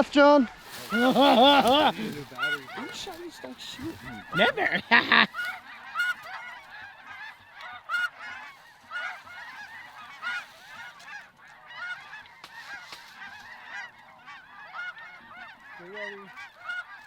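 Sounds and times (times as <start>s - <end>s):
geese honking: 0.5s - 17.0s.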